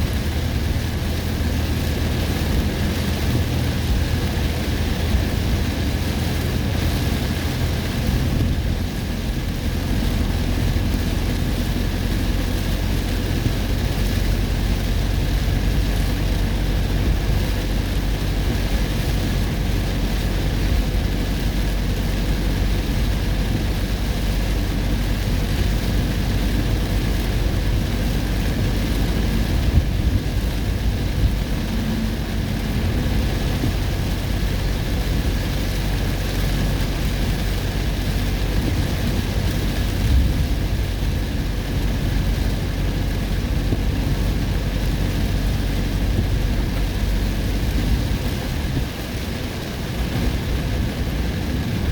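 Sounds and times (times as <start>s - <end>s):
vehicle driving through storm: 0.0s - 51.9s.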